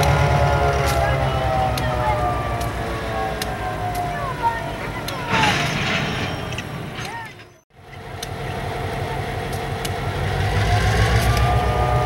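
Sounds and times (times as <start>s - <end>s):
diesel locomotive engine throbbing: 0.0s - 12.0s.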